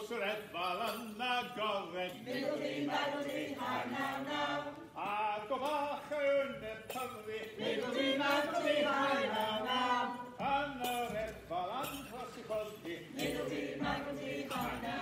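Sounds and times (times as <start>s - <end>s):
men singing together: 0.8s - 15.0s.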